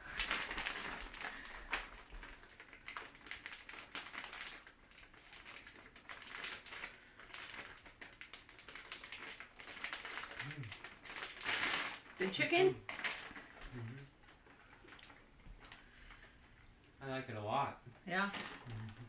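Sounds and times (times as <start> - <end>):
clicks and rustles of folding taco: 0.0 - 16.4.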